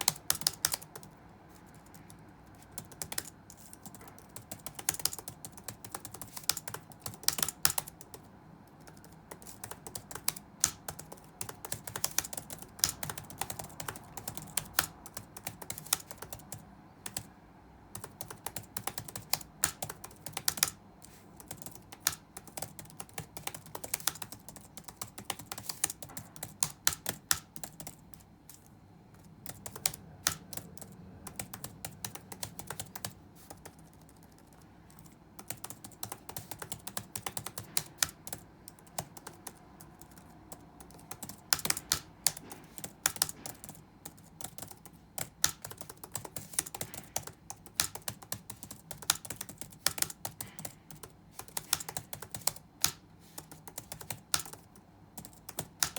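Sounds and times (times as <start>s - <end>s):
faint low room hum: 0.0s - 55.9s
typing on computer keyboard: 0.0s - 55.9s.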